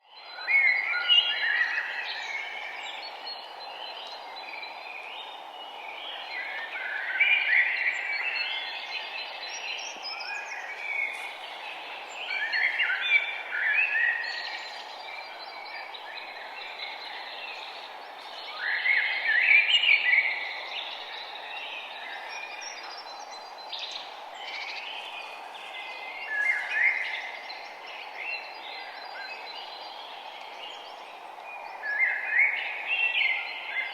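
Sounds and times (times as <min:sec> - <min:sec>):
birds singing: 0:00.0 - 0:33.9
steady background hiss: 0:00.3 - 0:33.9.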